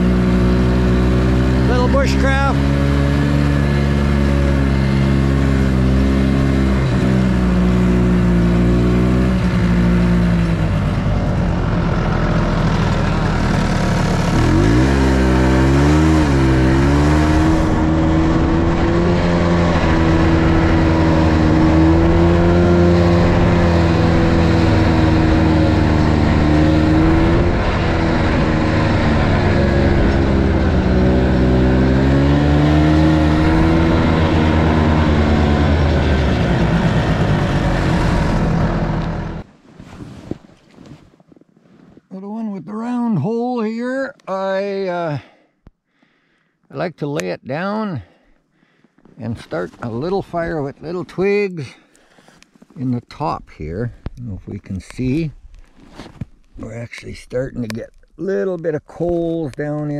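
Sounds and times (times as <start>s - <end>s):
snowmobile engine running: 0.0s - 40.1s, 49.2s - 55.3s, 56.6s - 59.9s.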